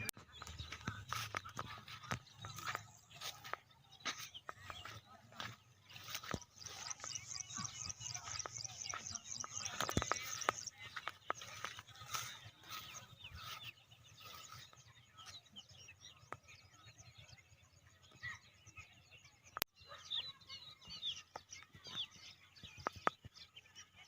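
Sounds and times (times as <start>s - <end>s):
birds chirping faintly: 0.0s - 24.0s.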